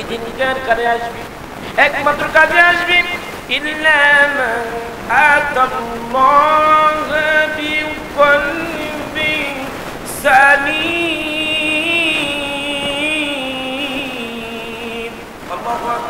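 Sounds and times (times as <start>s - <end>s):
man chanting through pa: 0.0s - 16.0s.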